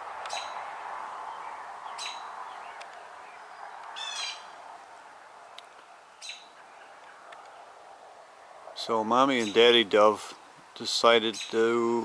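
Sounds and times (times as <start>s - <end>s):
steady background hiss: 0.0s - 12.0s
small birds chirping: 0.2s - 12.0s.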